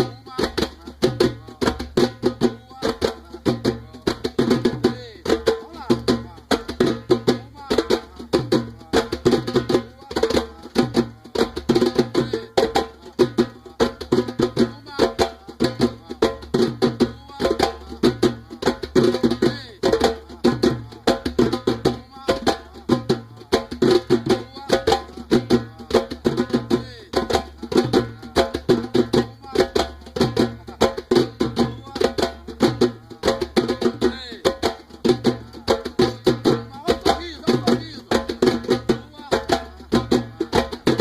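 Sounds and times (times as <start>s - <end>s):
hand drum playing fast pattern: 0.0s - 41.0s.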